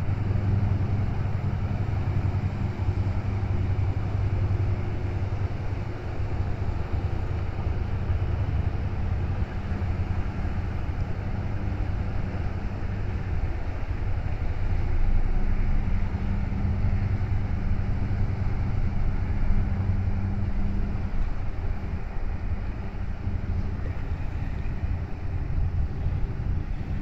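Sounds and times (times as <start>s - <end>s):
ship diesel engines droning: 0.0s - 27.0s.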